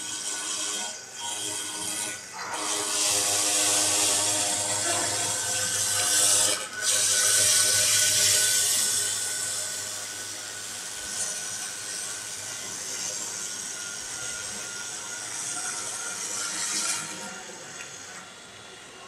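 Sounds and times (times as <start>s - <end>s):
router spindle whining: 0.0s - 19.0s.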